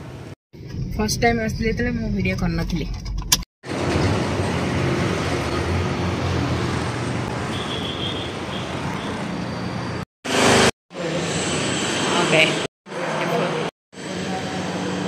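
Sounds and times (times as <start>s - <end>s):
road traffic: 0.0s - 1.0s, 3.1s - 15.0s.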